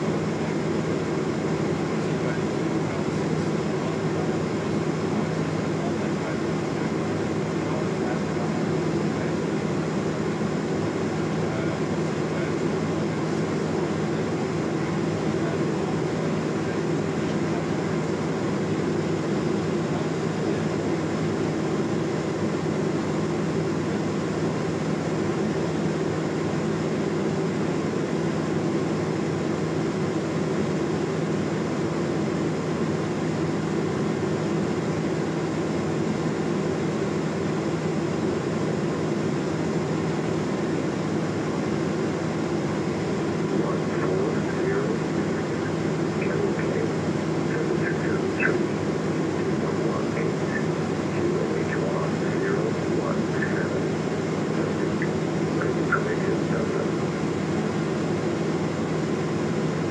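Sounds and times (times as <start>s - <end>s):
airplane engine and propeller drone: 0.0s - 59.9s.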